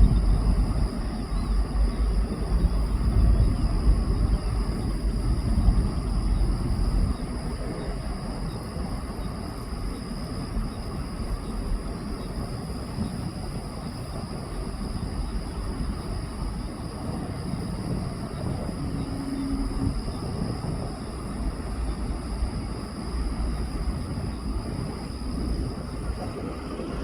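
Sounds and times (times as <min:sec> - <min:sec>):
jet engines rumbling and whining: 0:00.0 - 0:27.0.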